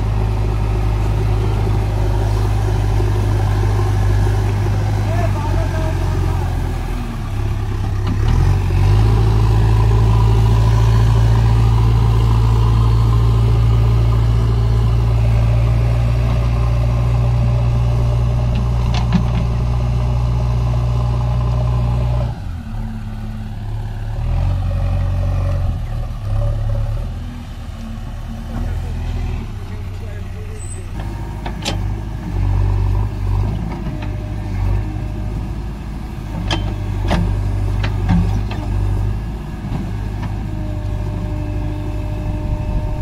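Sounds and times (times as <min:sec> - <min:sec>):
diesel engine revving: 0:00.0 - 0:43.0.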